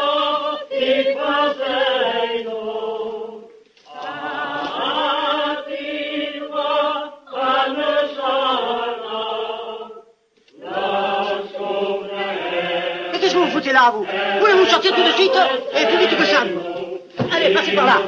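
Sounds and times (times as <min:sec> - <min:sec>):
voices chanting a sung prayer: 0:00.0 - 0:18.0.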